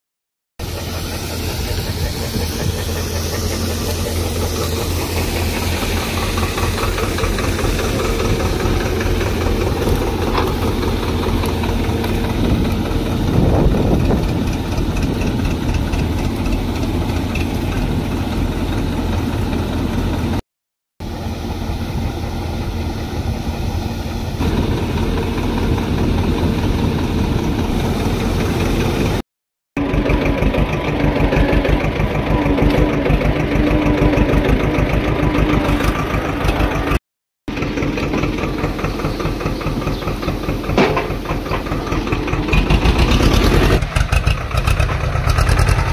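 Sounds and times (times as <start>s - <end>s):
combine harvester engine: 0.6s - 20.4s, 21.0s - 29.2s, 29.8s - 45.9s
tractor engine idling: 0.6s - 20.4s, 21.0s - 29.2s, 29.8s - 45.9s.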